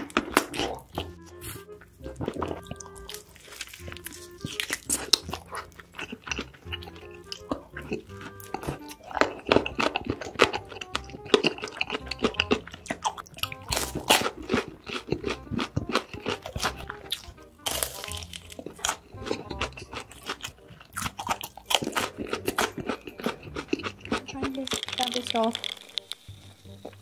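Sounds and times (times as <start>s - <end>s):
crunchy chewing: 0.0s - 27.0s
soft background music: 0.0s - 27.0s.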